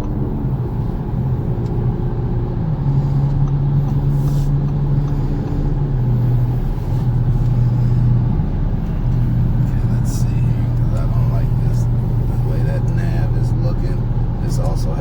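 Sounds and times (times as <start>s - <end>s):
car engine from inside cabin: 0.0s - 15.0s
road noise: 0.0s - 15.0s.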